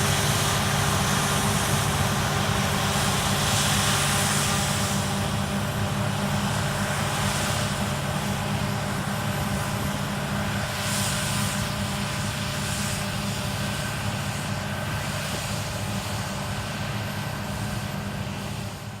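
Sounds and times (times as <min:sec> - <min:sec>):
combine harvester droning hum: 0:00.0 - 0:19.0.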